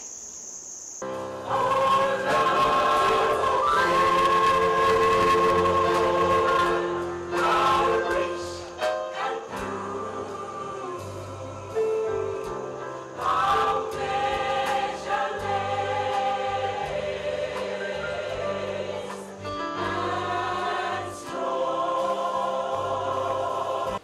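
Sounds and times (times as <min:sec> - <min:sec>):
choir singing in parts: 0:01.0 - 0:24.0
steady bass accompaniment: 0:01.1 - 0:08.8, 0:09.6 - 0:24.0.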